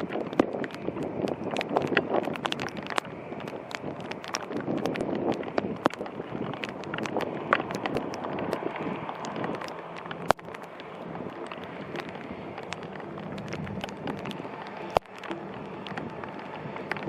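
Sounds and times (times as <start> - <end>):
raindrops tapping: 0.0 - 17.0
wind rushing: 0.0 - 17.0.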